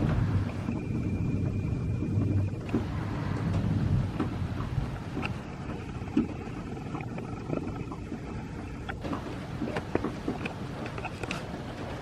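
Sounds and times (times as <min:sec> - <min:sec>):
wind rumbling over microphone: 0:00.0 - 0:12.0.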